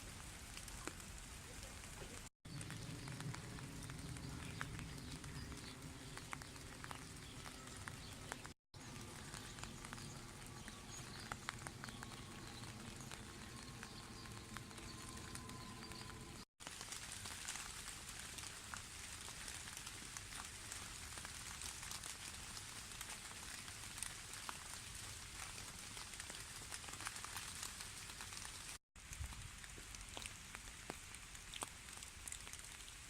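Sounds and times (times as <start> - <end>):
light drizzle pattering on leaves: 0.0 - 33.0.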